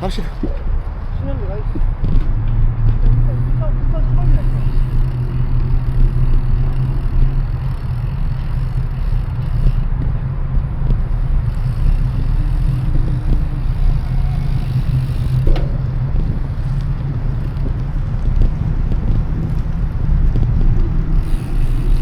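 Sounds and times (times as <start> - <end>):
wind and road noise rumble: 0.0 - 22.0.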